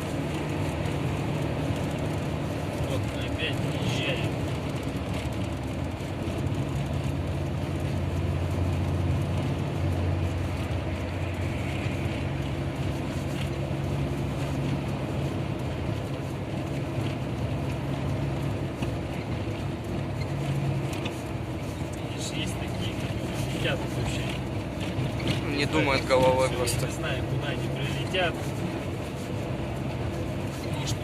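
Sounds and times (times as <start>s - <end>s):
car engine and tyres droning: 0.0s - 31.0s.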